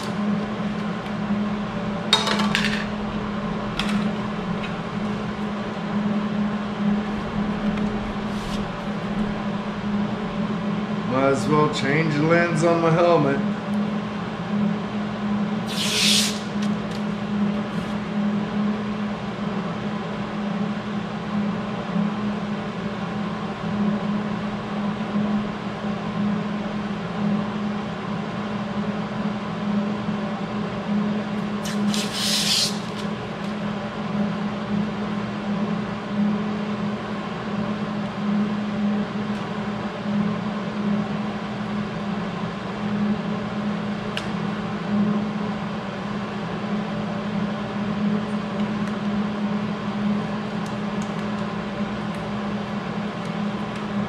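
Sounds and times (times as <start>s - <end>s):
mechanical hum of shop equipment: 0.0s - 54.0s.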